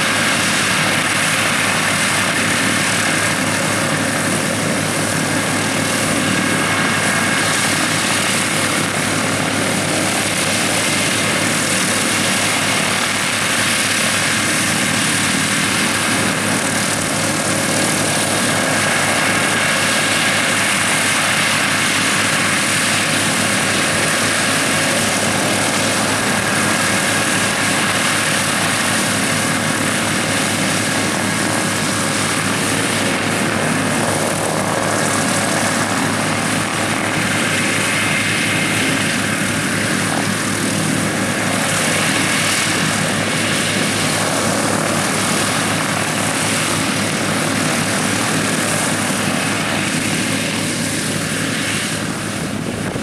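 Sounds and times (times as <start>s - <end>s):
radial piston engines running: 0.0s - 53.0s.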